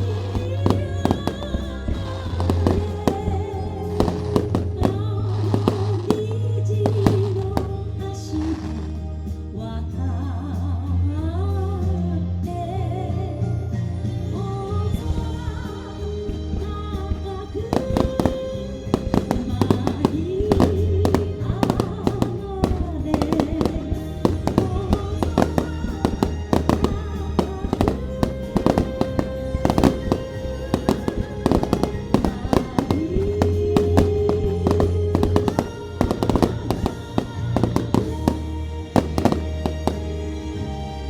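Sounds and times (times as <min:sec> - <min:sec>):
fireworks bursting and crackling: 0:00.0 - 0:09.2, 0:15.1 - 0:40.7
music with steady bass: 0:00.0 - 0:41.0.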